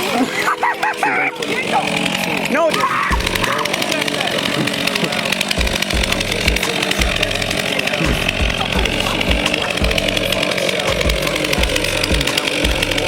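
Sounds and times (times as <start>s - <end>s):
chainsaw cutting into tree: 0.0s - 13.0s.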